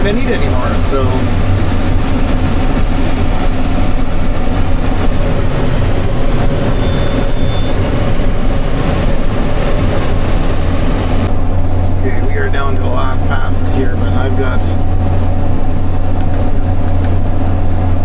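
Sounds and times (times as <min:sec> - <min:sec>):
combine harvester running: 0:00.0 - 0:18.0.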